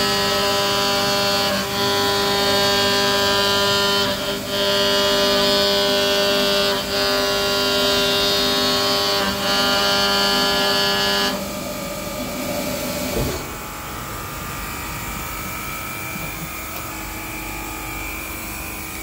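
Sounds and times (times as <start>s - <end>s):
steady machine hum: 0.0s - 19.0s
milling spindle high whine: 0.1s - 19.0s.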